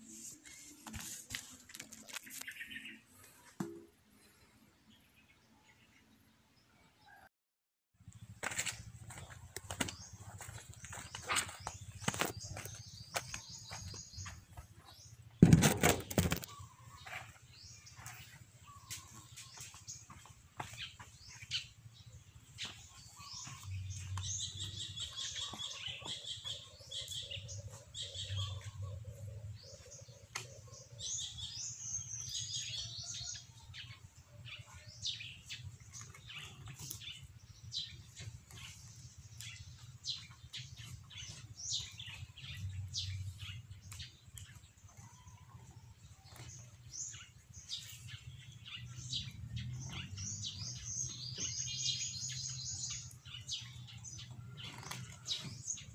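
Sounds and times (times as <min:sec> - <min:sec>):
small birds chirping: 0:08.0 - 0:55.9.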